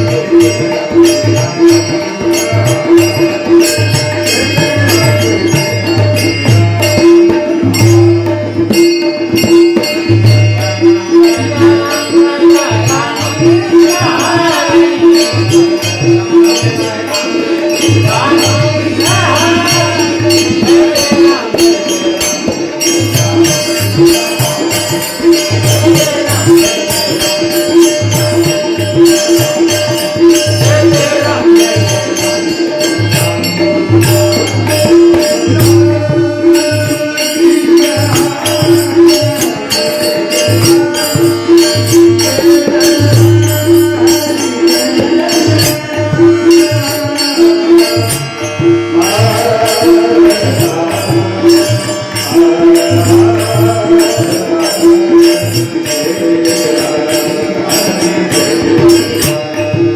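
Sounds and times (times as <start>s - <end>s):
jingling percussion: 0.0s - 59.9s
tabla playing rhythm: 0.0s - 59.9s.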